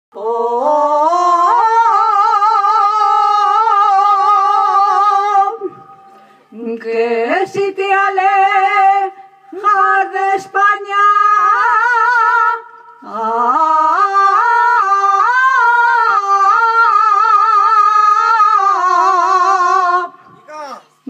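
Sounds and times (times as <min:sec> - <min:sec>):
person singing with vibrato: 0:00.1 - 0:21.0.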